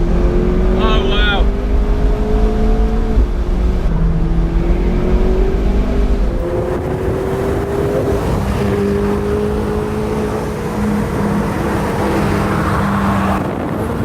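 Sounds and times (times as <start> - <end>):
road and wind noise: 0.0 - 14.0
sports car engine under load: 0.0 - 14.0.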